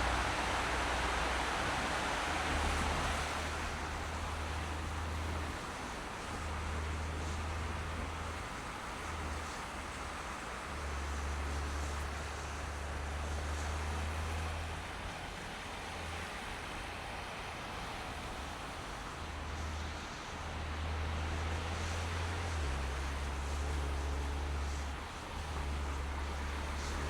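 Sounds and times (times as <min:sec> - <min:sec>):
road and tyre noise: 0:00.0 - 0:27.0.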